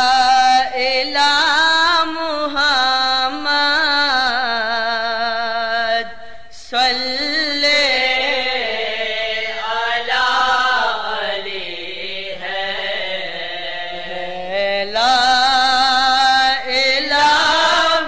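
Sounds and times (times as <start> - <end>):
person singing a hymn: 0.0 - 18.0.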